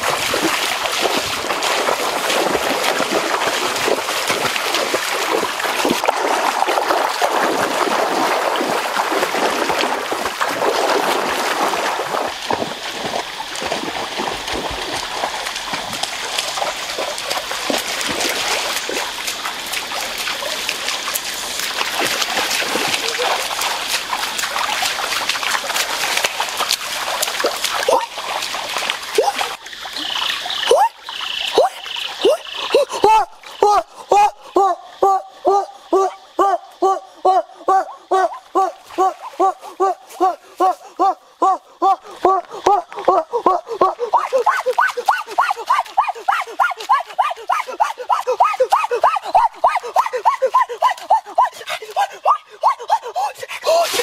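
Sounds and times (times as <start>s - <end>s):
feet splashing through water: 0.0s - 54.0s
stream trickling: 0.0s - 54.0s.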